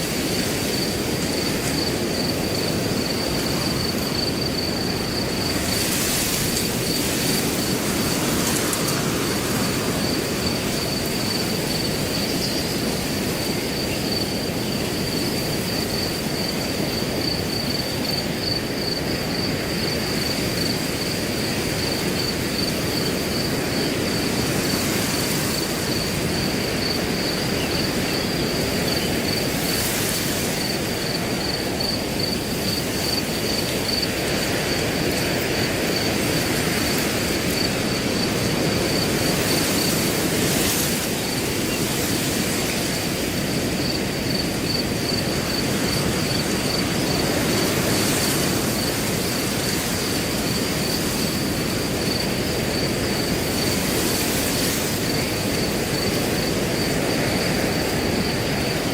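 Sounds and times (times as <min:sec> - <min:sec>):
cricket trilling: 0:00.0 - 0:58.9
wind blowing through grass: 0:00.0 - 0:58.9.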